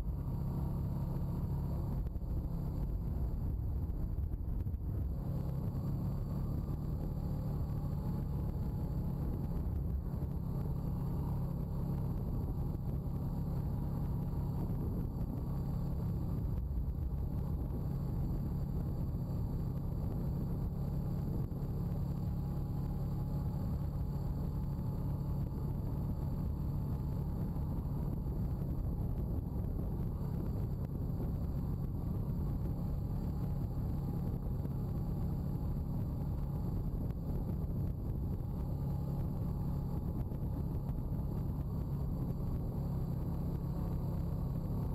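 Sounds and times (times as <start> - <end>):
atv engine running: 0.0 - 44.9.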